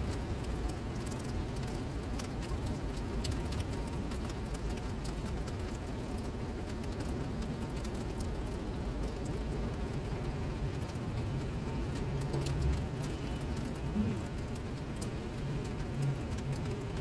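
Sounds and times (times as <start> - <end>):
rain falling into a puddle: 0.0 - 17.0.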